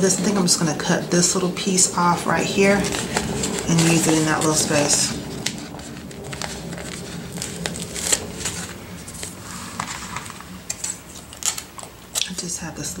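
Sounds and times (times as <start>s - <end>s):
paper sticker sheet rustling: 1.2s - 12.2s.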